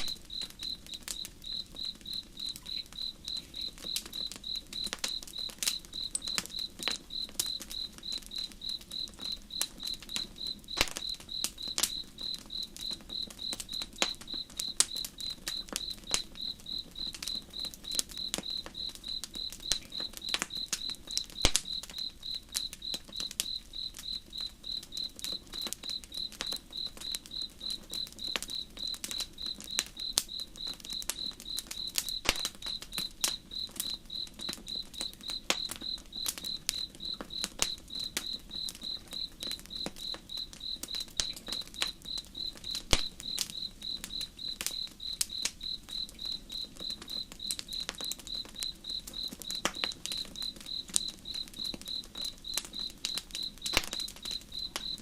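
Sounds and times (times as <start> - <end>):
campfire crackling: 0.0 - 55.0
insect chirping: 0.0 - 55.0.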